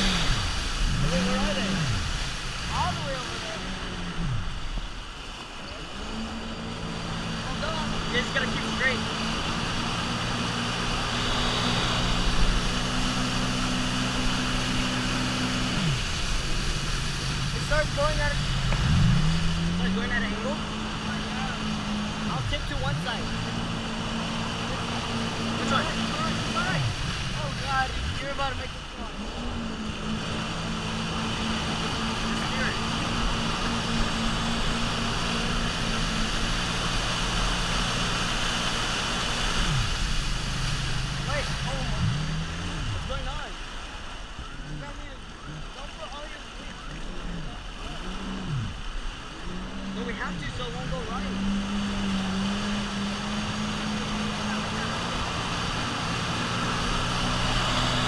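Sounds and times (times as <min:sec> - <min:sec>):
jet ski engine running: 0:00.0 - 0:58.0
rushing water and spray: 0:00.0 - 0:58.0.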